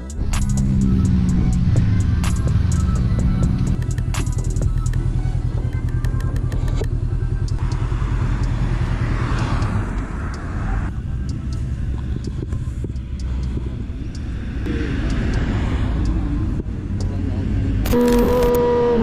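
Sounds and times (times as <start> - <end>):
road noise: 0.0 - 19.0
wind: 0.0 - 19.0.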